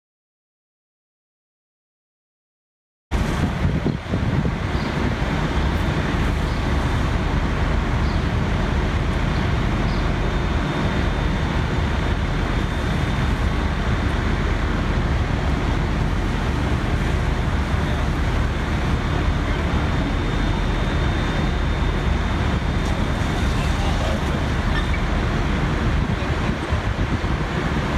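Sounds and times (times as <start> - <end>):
diesel engines rumbling: 3.1 - 27.9.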